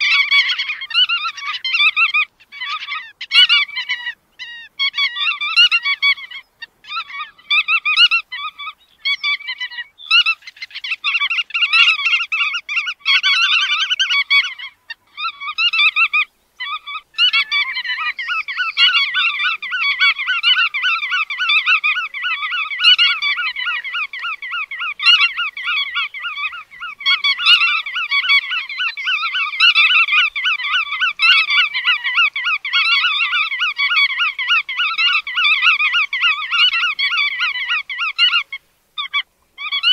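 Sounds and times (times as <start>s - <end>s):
godwit calling: 0.0s - 39.9s.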